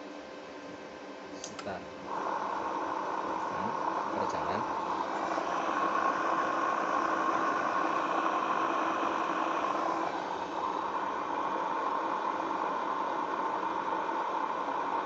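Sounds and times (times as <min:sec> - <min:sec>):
electric motor humming with whine: 0:02.0 - 0:15.0.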